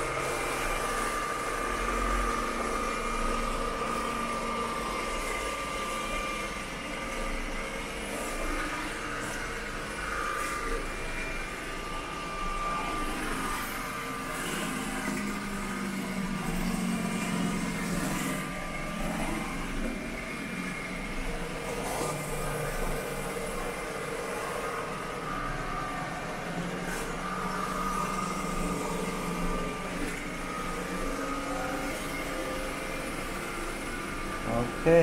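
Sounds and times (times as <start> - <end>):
robot vacuum whine: 0.0 - 35.0.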